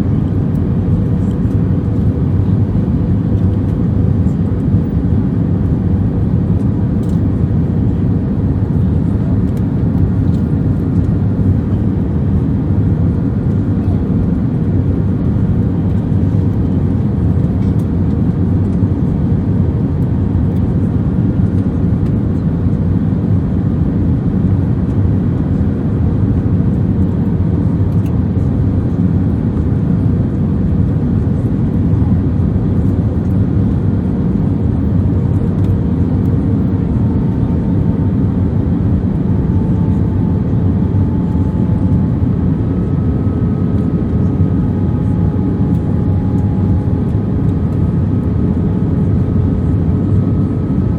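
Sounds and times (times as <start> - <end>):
airliner cabin drone: 0.0 - 50.9.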